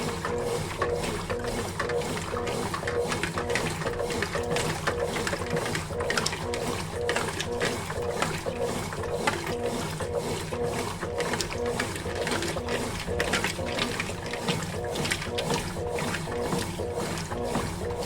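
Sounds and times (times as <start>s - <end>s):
washing machine agitating: 0.0s - 18.0s.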